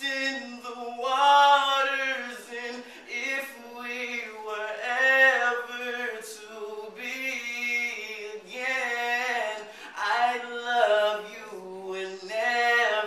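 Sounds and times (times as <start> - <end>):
person singing unaccompanied: 0.0 - 13.0.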